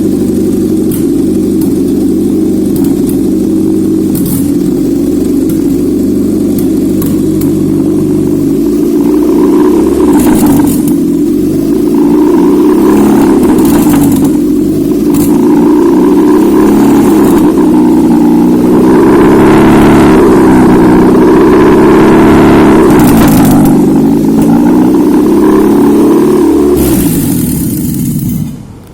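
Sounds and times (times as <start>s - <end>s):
petrol engine idling and revving: 0.0s - 28.9s.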